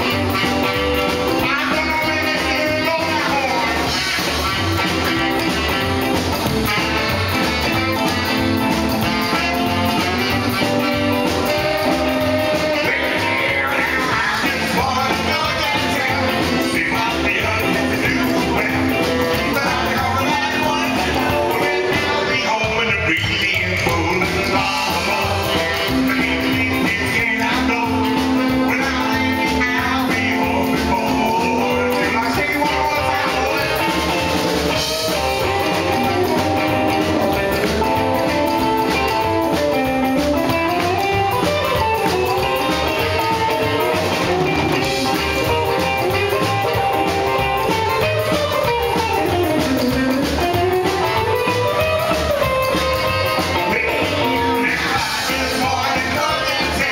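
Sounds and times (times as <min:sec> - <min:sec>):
man singing: 0:00.0 - 0:06.0, 0:09.3 - 0:56.9
rock and roll band playing: 0:00.0 - 0:56.9.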